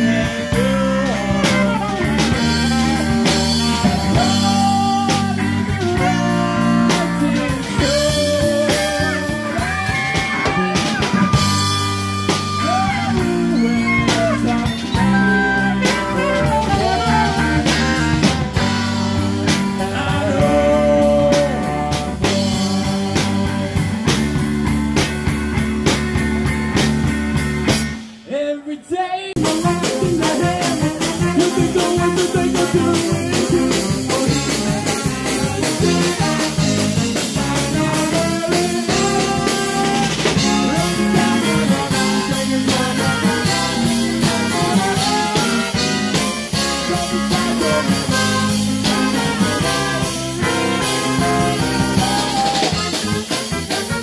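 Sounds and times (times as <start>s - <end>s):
person singing: 0.0s - 23.9s, 28.2s - 53.2s
live band playing: 0.0s - 54.0s.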